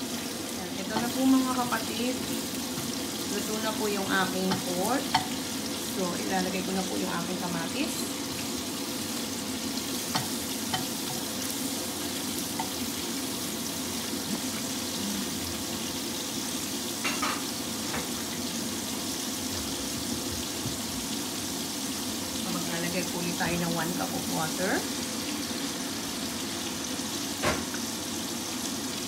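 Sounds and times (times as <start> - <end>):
food sizzling in frying pan: 0.0 - 29.0.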